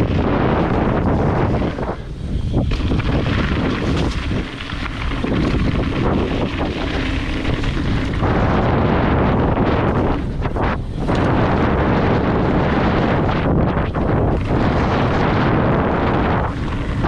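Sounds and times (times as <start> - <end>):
bike knocking and rattling: 0.0 - 17.0
bike tyres on trail: 0.0 - 17.0
wind rumble on microphone: 0.0 - 17.0.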